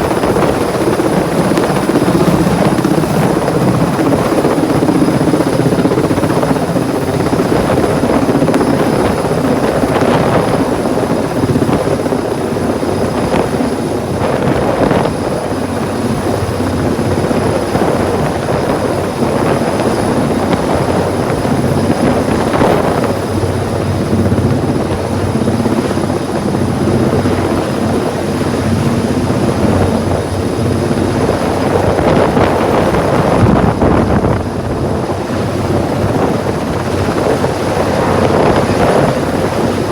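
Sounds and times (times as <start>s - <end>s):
helicopter rotor chop: 0.0s - 39.9s.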